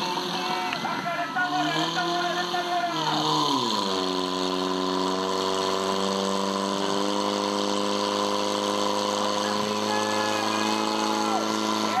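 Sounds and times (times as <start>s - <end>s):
pump engine running: 0.0s - 12.0s.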